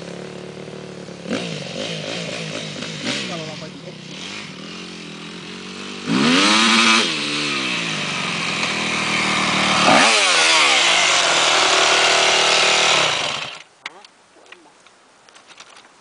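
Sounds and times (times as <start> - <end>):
motocross bike engine revving: 0.0 - 13.7.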